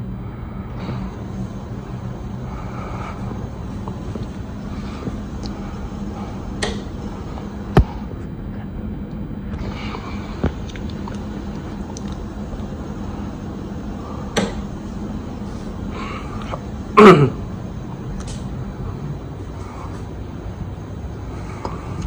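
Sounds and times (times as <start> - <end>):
ceiling fan humming: 0.0 - 22.0.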